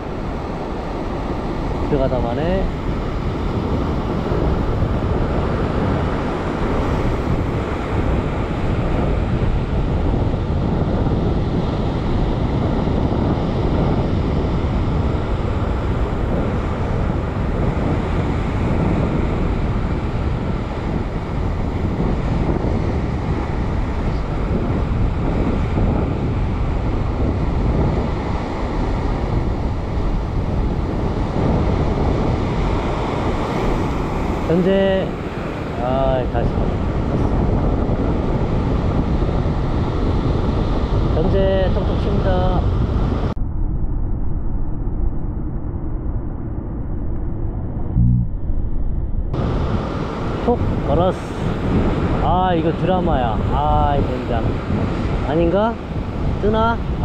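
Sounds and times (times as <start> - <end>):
ocean surf breaking on rocks: 0.0 - 41.2, 49.4 - 57.0
wind buffeting microphone: 0.0 - 57.0.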